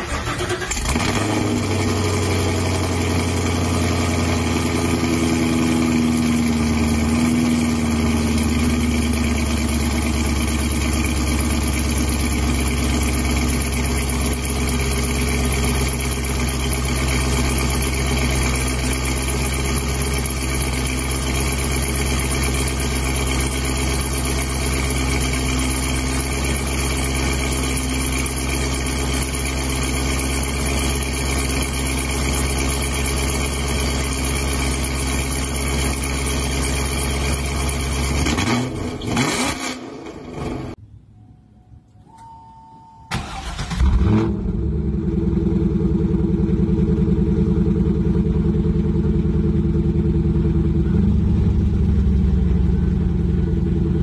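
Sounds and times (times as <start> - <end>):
car engine idling: 0.0 - 39.0, 43.1 - 54.0.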